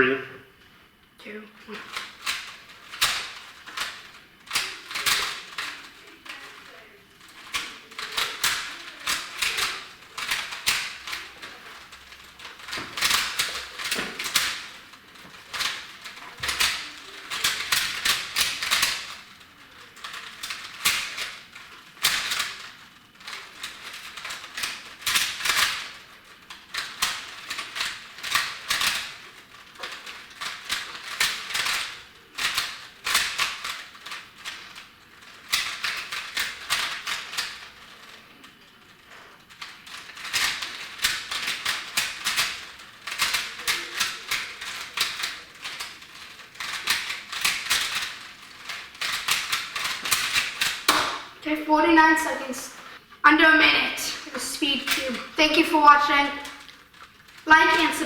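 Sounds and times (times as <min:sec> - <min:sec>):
plastic puzzle cube clicking: 0:01.8 - 0:51.4, 0:54.8 - 0:58.0.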